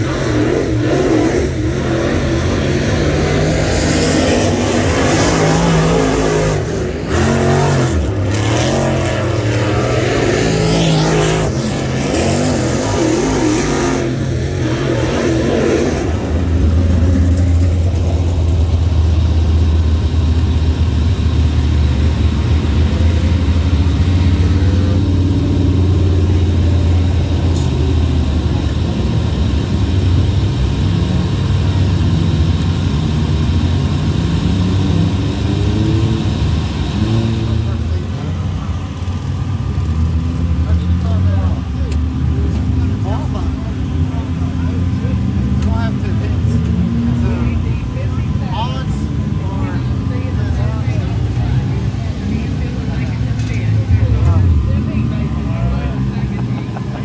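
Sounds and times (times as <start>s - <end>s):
low engine drone: 0.0s - 57.0s
race car engines revving: 0.0s - 57.0s.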